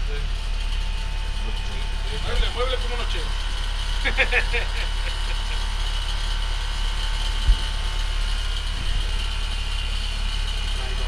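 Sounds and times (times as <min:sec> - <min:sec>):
air conditioner compressor hum: 0:00.0 - 0:11.0
high steady whine: 0:00.0 - 0:11.0.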